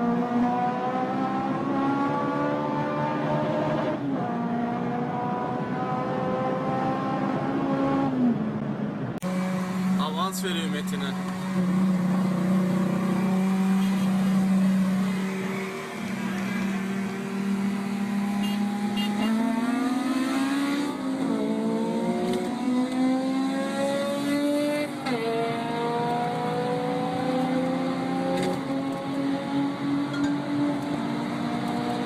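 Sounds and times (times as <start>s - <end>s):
car engine revving and accelerating: 0.0s - 32.0s.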